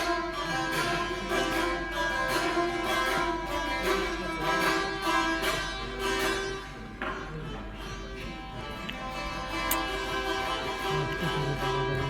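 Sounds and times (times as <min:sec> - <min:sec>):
plucked lute notes: 0:00.0 - 0:12.0.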